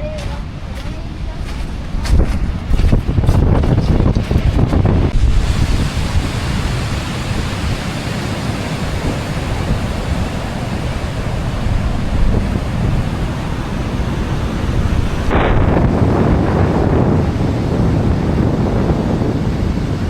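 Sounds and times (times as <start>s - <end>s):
ocean surf washing on beach: 0.0s - 20.0s
wind buffeting microphone: 0.0s - 20.0s.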